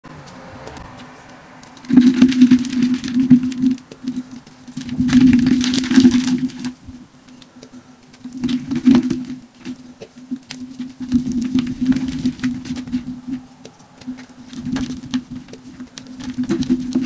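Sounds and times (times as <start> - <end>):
hands crushing chalk: 0.2 - 17.0.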